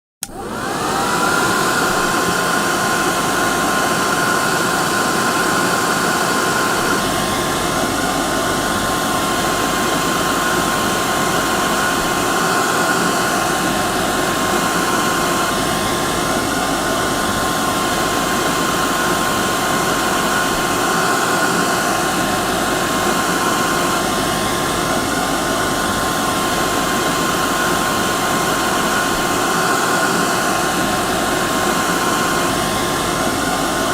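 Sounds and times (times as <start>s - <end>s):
hair dryer running: 0.2s - 33.9s.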